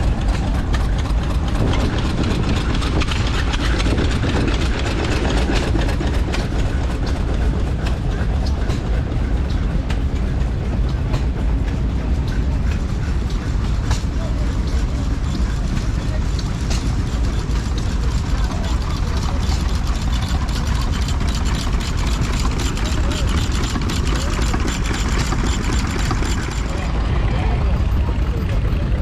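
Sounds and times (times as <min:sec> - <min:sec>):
stationary engine throbbing: 0:00.0 - 0:29.0.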